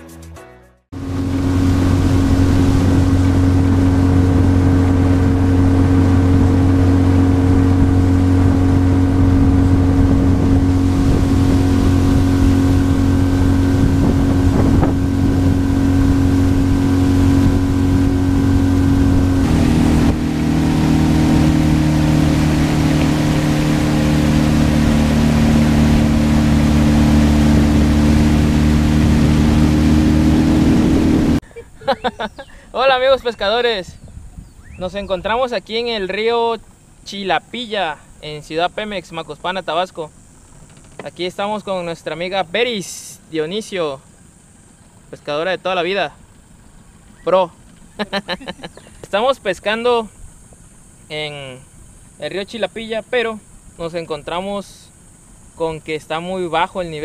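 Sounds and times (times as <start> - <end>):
outboard motor running: 0.9 - 32.7, 34.6 - 57.0.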